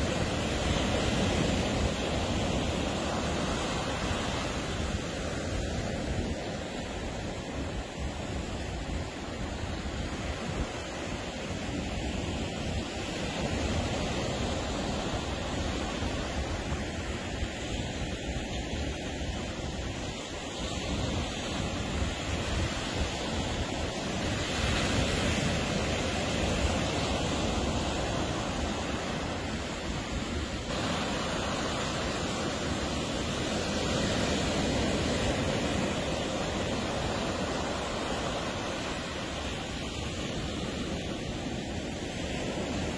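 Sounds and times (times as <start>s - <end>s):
ocean surf breaking on beach: 0.0s - 42.9s.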